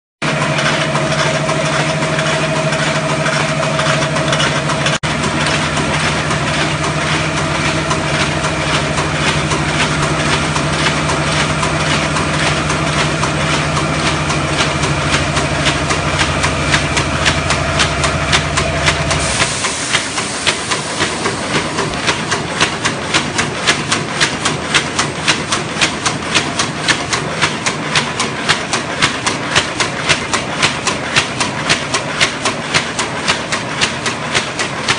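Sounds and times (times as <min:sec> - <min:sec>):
machine clattering: 0:00.2 - 0:34.9
machine motor hum: 0:00.2 - 0:34.9.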